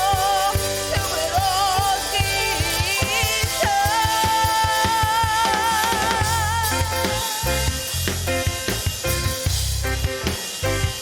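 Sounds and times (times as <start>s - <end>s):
band playing keyboard and drums: 0.0s - 11.0s.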